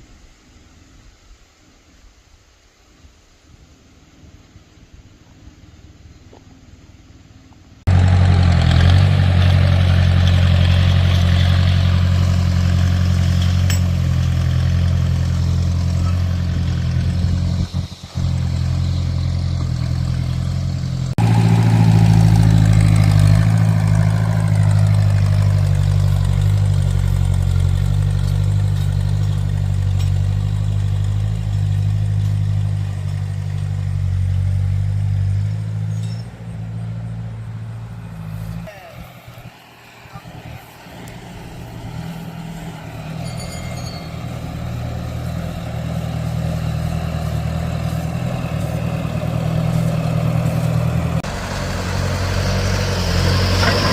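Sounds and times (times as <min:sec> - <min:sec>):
engine running: 0:05.4 - 0:53.9.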